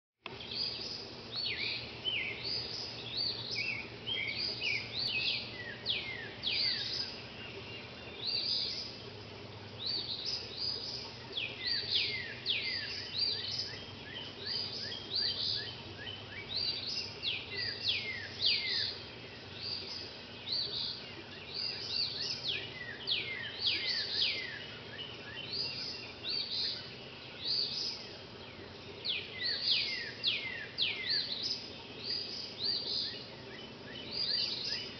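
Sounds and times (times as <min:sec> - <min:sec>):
songbirds chirping: 0:00.2 - 0:34.9.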